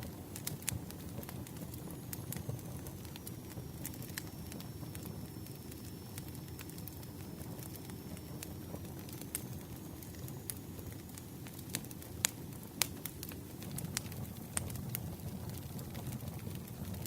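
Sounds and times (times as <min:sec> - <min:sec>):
fire popping and snapping: 0:00.0 - 0:17.0
rumble of burning wood: 0:00.0 - 0:17.0.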